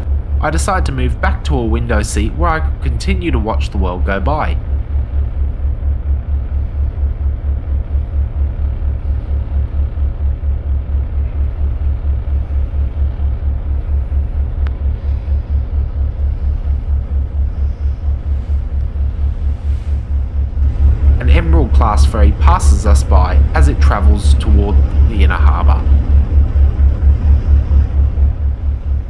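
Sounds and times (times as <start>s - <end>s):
ferry diesel engines throbbing: 0.0s - 29.0s.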